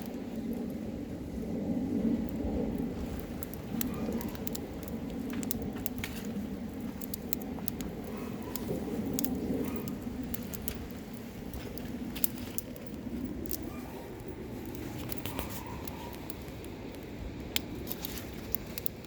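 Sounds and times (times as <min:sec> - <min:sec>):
campfire crackling and popping: 0:00.0 - 0:19.0
fire low rumble: 0:00.0 - 0:19.0.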